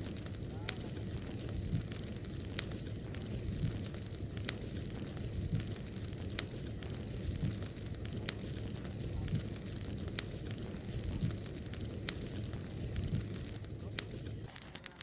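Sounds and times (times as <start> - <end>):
bonfire flame rushing: 0.0 - 15.0
fire crackling pops: 0.0 - 15.0.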